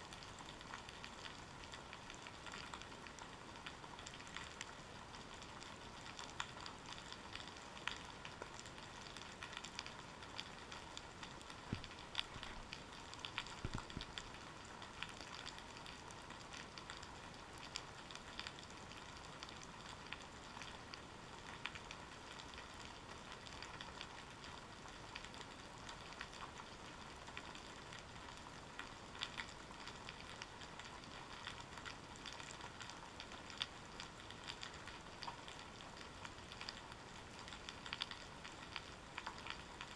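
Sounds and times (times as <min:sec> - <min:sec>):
underwater crackle of tiny clicks: 0:00.0 - 0:39.9.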